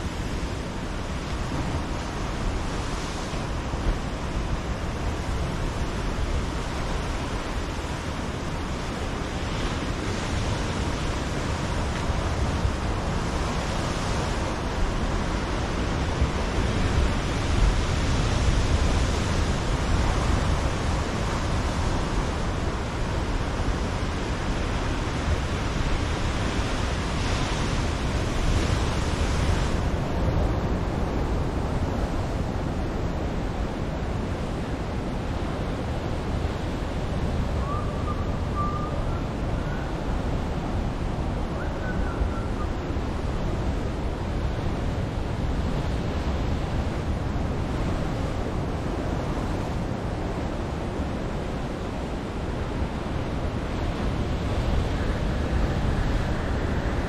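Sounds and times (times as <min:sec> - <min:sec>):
ocean surf breaking on rocks: 0:00.0 - 0:57.0.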